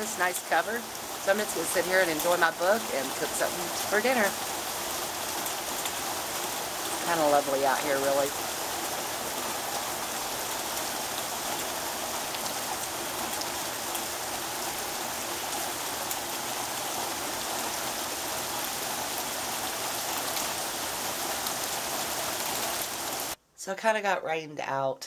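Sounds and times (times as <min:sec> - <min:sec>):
steady rain falling: 0:00.0 - 0:23.4.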